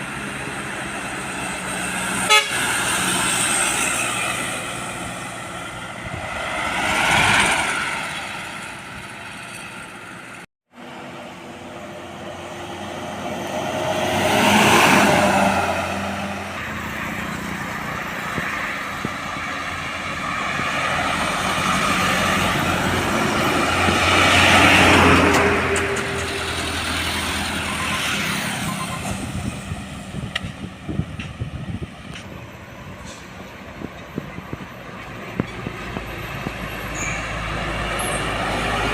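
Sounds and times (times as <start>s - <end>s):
engine and tyre rumble: 0.0s - 38.9s
trucks passing close by: 0.0s - 38.9s.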